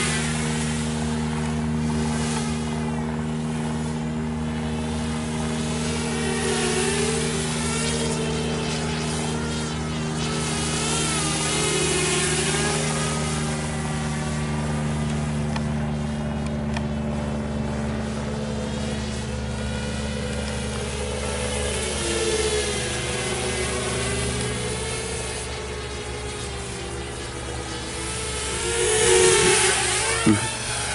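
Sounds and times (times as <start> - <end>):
quadcopter motors whining: 0.0 - 30.9
steady low hum: 0.0 - 30.9.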